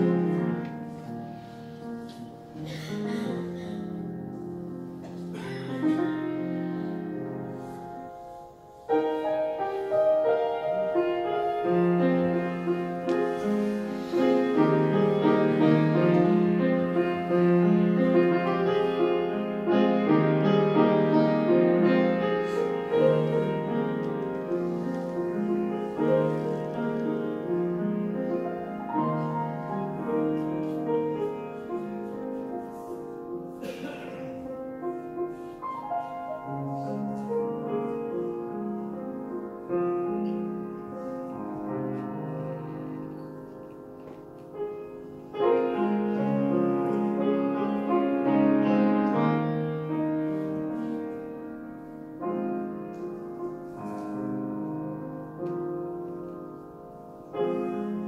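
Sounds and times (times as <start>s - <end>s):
slow piano piece: 0.0s - 58.0s.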